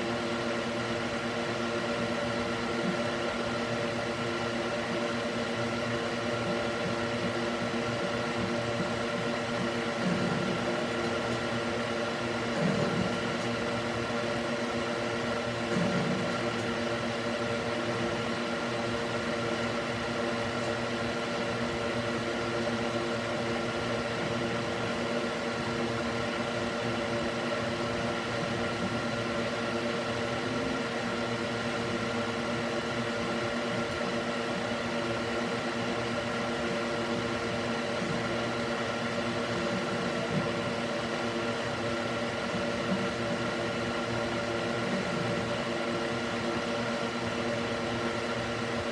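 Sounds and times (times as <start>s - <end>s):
electric cooling fan whirring: 0.0s - 48.9s.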